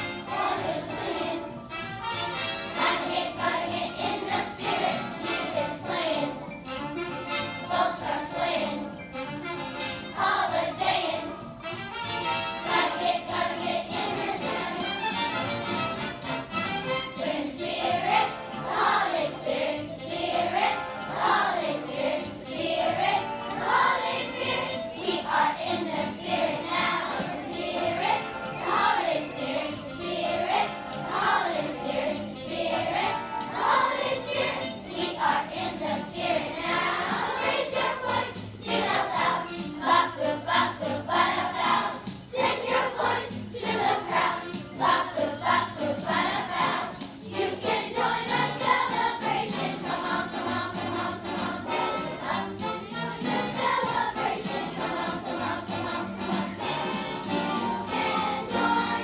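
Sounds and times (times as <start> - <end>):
children's choir singing: 0.0 - 59.0.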